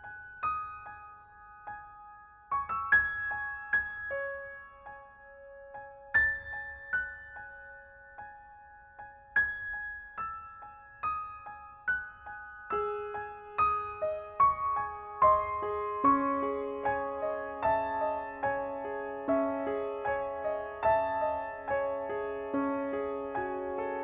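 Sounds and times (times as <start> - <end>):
slow soft piano music: 0.0 - 24.0.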